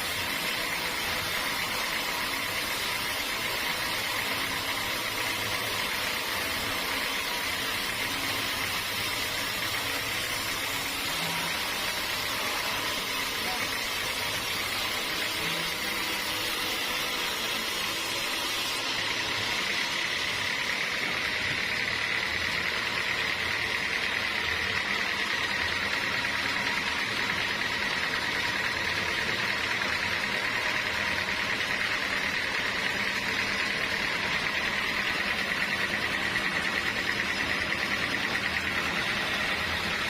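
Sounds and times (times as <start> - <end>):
sawmill machinery whining: 0.0 - 40.0.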